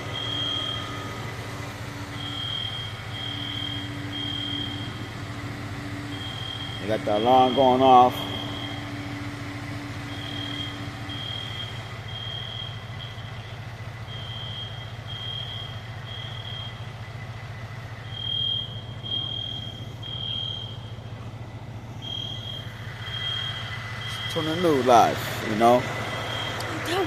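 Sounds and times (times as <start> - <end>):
smoke alarm beeping: 0.0 - 21.2, 21.9 - 27.0
vehicle engine idling: 0.0 - 27.0.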